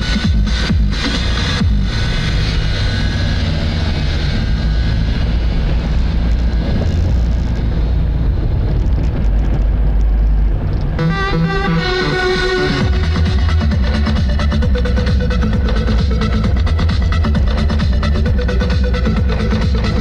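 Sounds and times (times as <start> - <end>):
moving vehicle rumble: 0.0 - 20.0.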